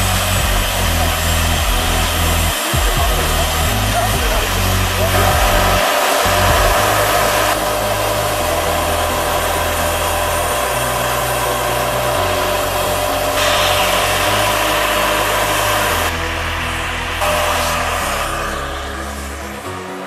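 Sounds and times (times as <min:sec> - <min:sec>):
model helicopter motor whine: 0:00.0 - 0:19.8
rotor rushing: 0:00.0 - 0:20.0.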